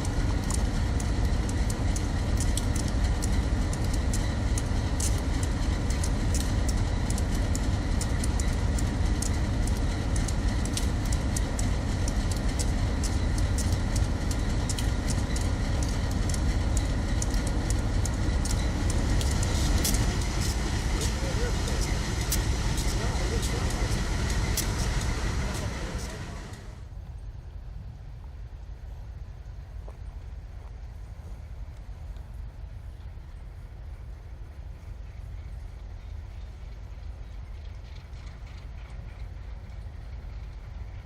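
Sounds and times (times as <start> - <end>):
wheels clicking on rails: 0.0 - 27.0, 29.7 - 41.0
train rumbling past: 0.0 - 41.0.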